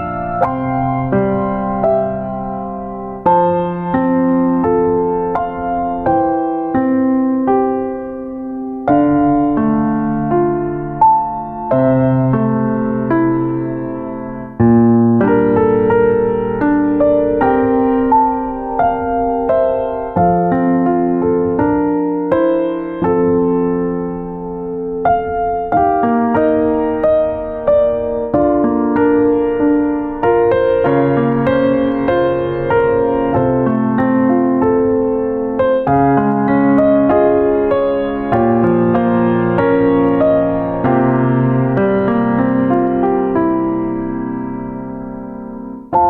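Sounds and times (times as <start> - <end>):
electric piano chords: 0.0 - 46.0.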